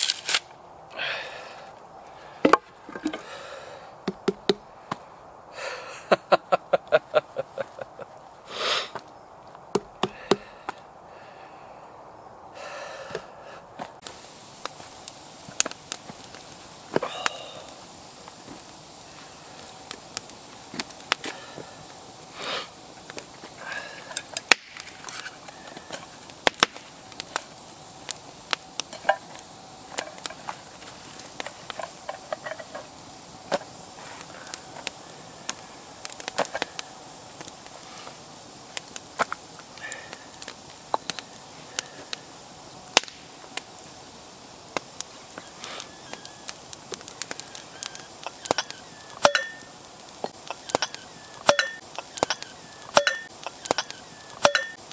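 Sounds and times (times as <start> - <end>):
campfire crackling: 0.0 - 54.9
faint steady hiss: 0.0 - 54.9.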